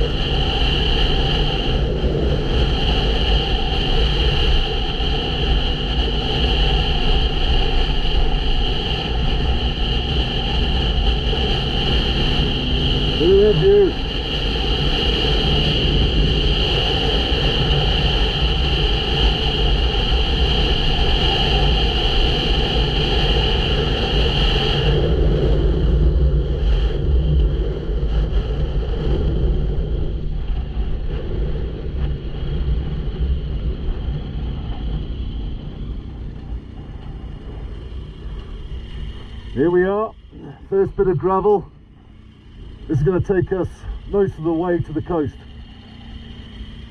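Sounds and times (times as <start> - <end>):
motorcycle engine running: 0.0 - 46.9
steady high whine: 0.0 - 46.9
wind on microphone: 0.0 - 46.9.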